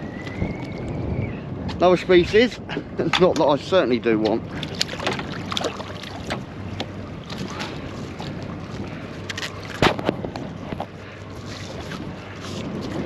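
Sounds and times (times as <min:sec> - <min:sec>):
water around boat: 0:00.0 - 0:13.0
wind: 0:00.0 - 0:13.0.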